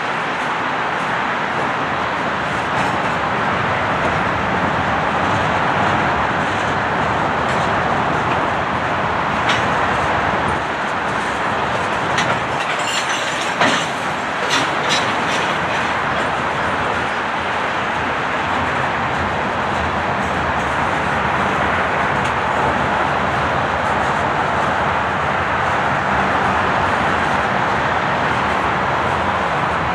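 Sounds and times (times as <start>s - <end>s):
train car clicks and clanks: 0.0s - 29.9s
train wheels rumbling on rail: 0.0s - 29.9s.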